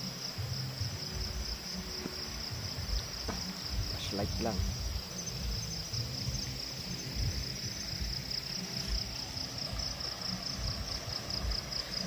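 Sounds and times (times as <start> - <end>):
crickets chirring: 0.0 - 12.0
low bumps: 0.0 - 12.0.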